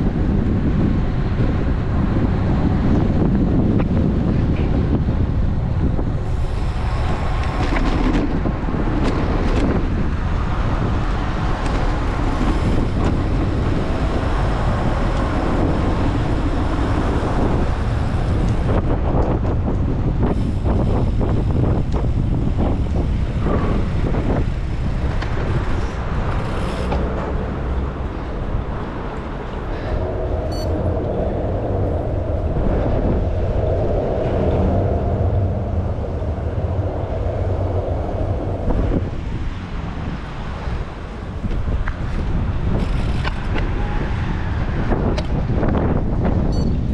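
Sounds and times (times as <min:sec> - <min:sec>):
road and traffic noise: 0:00.0 - 0:46.9
wind on camera microphone: 0:00.0 - 0:46.9.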